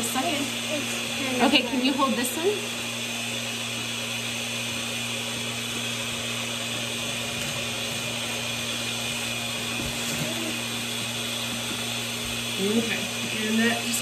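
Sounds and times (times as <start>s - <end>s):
vacuum pump humming: 0.0s - 14.0s.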